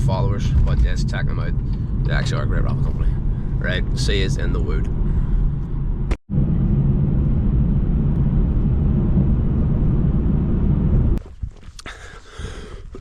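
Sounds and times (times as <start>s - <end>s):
car cabin road and engine noise: 0.0s - 11.8s.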